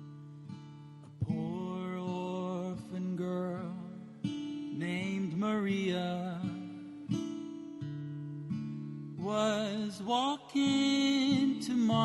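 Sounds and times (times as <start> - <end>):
acoustic guitar ballad: 0.0 - 12.0.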